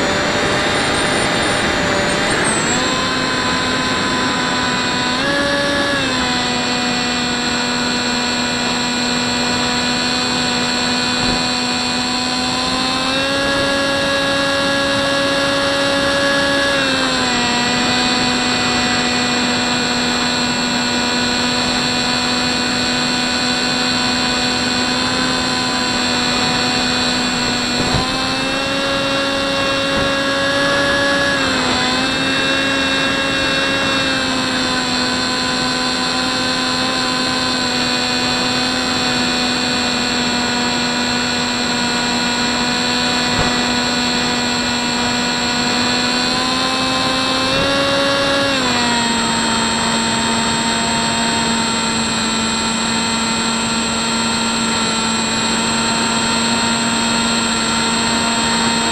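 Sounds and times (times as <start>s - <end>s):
model plane motor whining: 0.0s - 58.9s.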